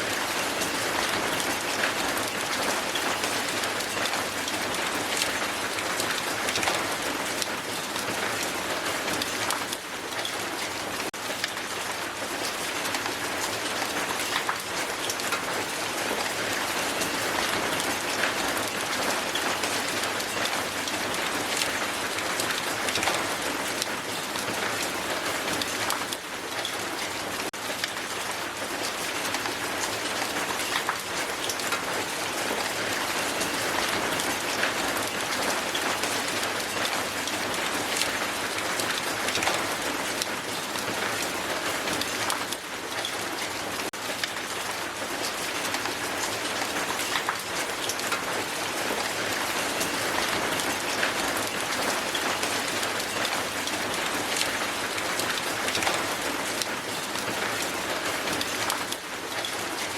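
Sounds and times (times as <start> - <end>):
hail clattering on ground: 0.0 - 59.9.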